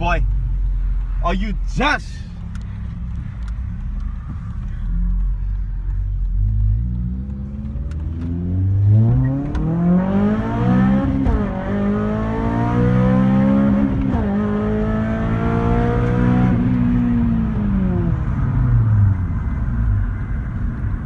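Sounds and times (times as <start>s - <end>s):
car engine accelerating hard: 0.1s - 21.0s.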